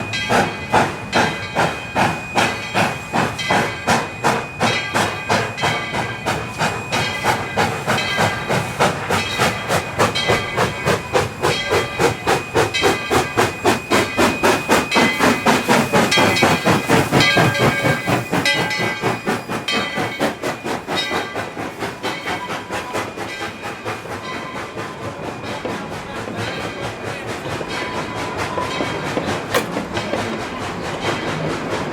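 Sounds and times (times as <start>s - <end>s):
steam hiss: 0.0s - 31.9s
steam locomotive chuffing: 0.0s - 31.9s.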